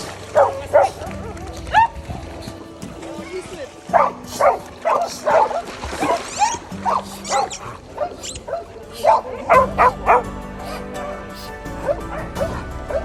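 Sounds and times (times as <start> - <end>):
background music: 0.0 - 13.0
dogs barking: 0.0 - 13.0.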